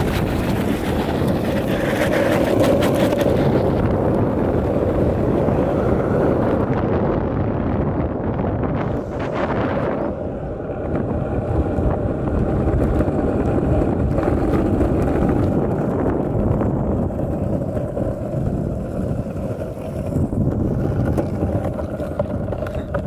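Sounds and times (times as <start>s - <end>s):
skateboard wheels rolling on asphalt: 0.0s - 23.0s
wind buffeting microphone: 0.0s - 23.0s.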